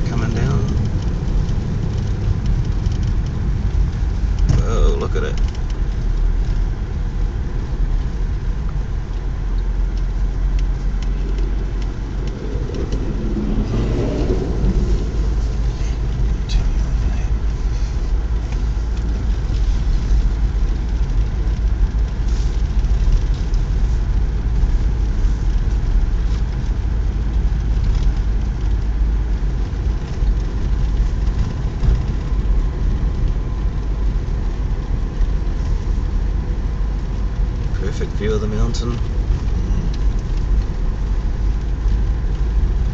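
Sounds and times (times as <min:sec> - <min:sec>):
car engine and tyres rumbling: 0:00.0 - 0:42.9.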